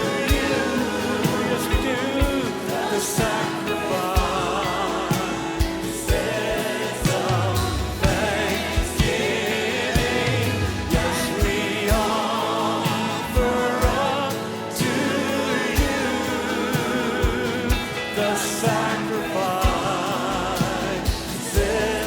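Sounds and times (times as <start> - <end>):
steady drum beat: 0.0 - 22.0
voices singing over a band: 0.0 - 22.0.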